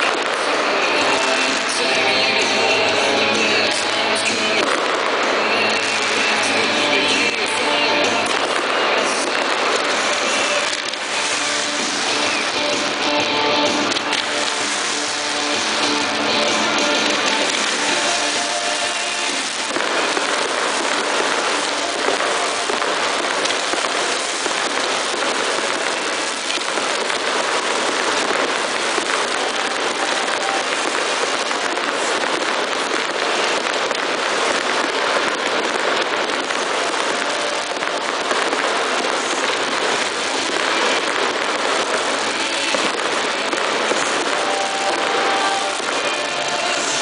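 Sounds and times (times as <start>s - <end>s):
firework fountains hissing: 0.0s - 47.0s.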